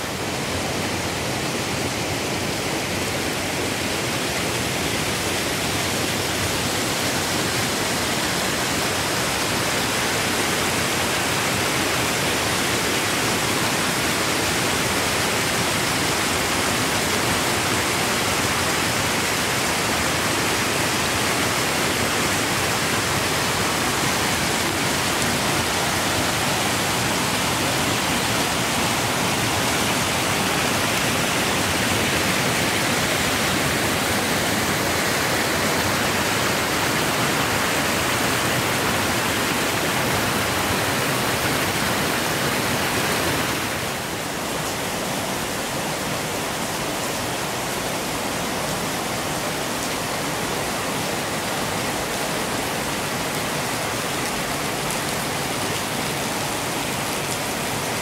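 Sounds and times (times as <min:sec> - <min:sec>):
whitewater torrent rushing: 0:00.0 - 0:58.0.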